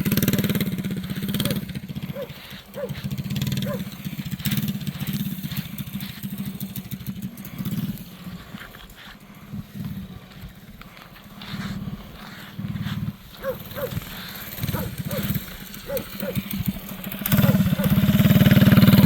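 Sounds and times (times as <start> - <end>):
small engine revving: 0.0 - 19.0.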